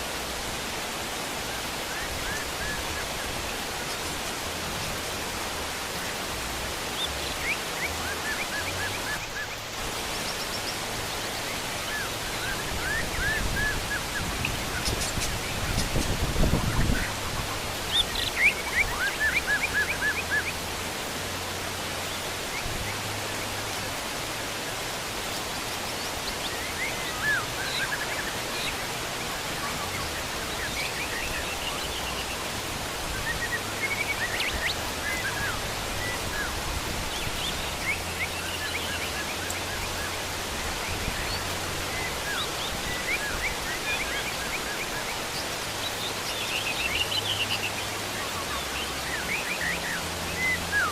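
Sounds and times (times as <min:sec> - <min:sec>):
birds chirping: 0:00.0 - 0:50.9
heavy rain hissing: 0:00.0 - 0:50.9.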